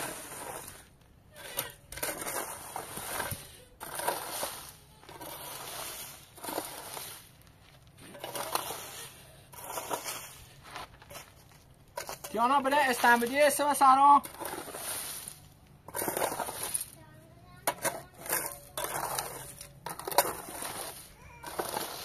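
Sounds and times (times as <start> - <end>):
scraping over gravelly dirt: 0.0 - 22.0.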